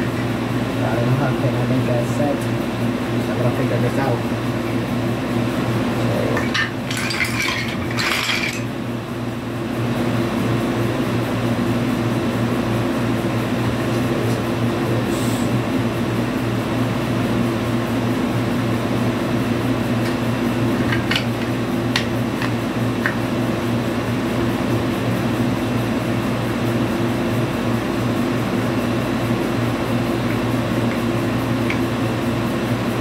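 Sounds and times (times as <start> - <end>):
air conditioner hum: 0.0 - 33.0.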